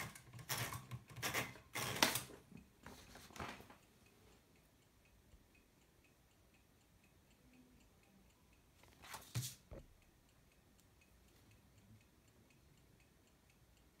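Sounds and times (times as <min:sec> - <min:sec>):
alarm clock ticking: 0:00.0 - 0:03.1, 0:03.7 - 0:14.0.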